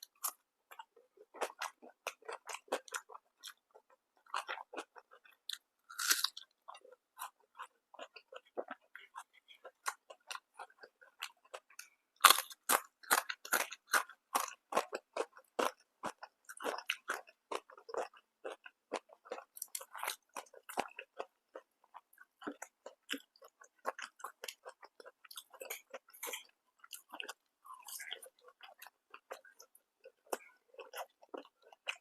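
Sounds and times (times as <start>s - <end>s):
person chewing and crunching food: 0.0s - 32.0s.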